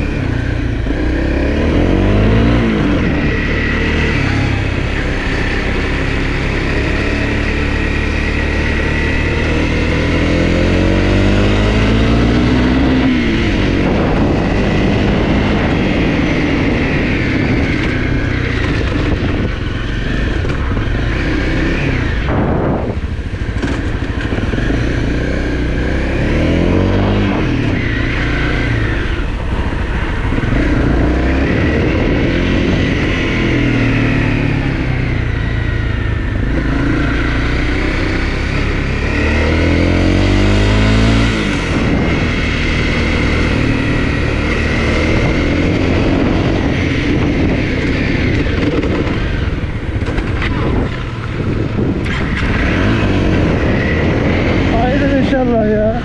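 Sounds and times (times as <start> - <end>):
dirt bike engine revving: 0.0 - 56.0
wind and ground noise: 0.0 - 56.0.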